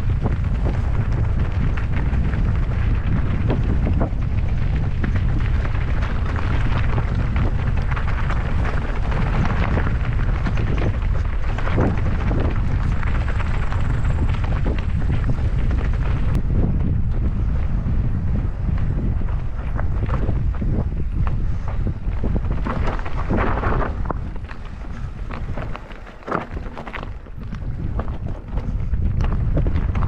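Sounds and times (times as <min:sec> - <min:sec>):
wind buffeting microphone: 0:00.0 - 0:30.0
bike clattering on stones: 0:00.1 - 0:17.5, 0:18.6 - 0:30.0.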